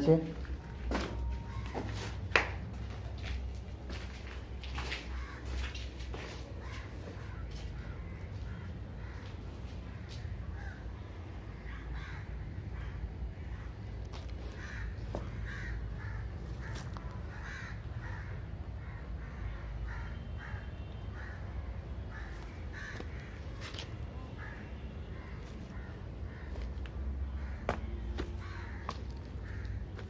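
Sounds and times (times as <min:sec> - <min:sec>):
crows cawing: 0:04.7 - 0:30.0.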